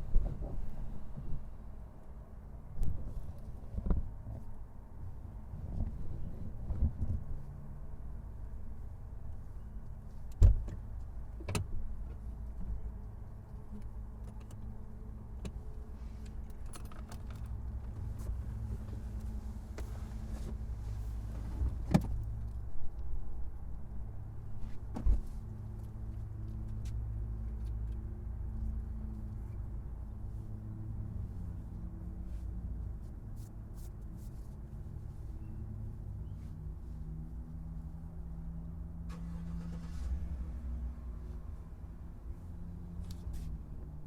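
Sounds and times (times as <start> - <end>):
car engine rumble: 0.0 - 44.0.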